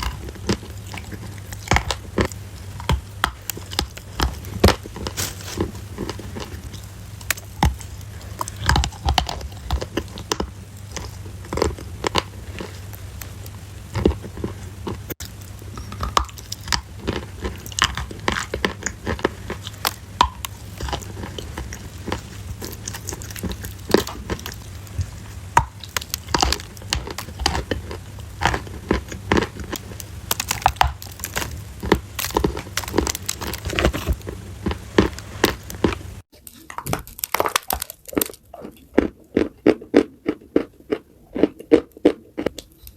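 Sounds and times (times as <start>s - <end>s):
crunchy chewing: 0.0s - 42.9s.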